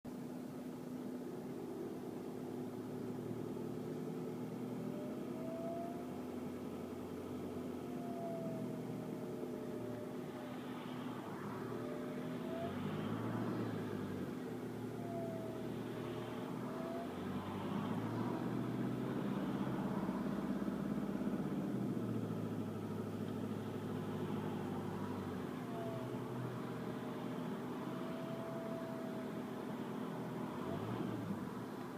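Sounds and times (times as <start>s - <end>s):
diesel engine running: 0.1s - 31.9s
thin whine: 0.1s - 31.9s.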